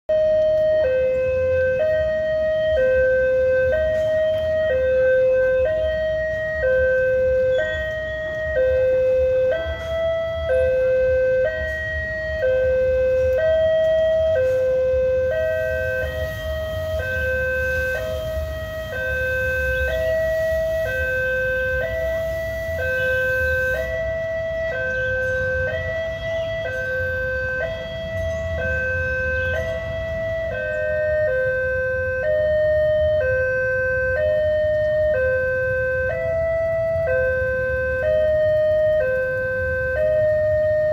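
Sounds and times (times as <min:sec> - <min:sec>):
low traffic rumble: 0:00.1 - 0:40.9.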